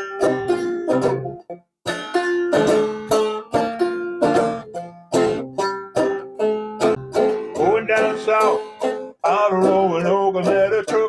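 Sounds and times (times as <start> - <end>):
banjo plucked notes: 0.0 - 11.0.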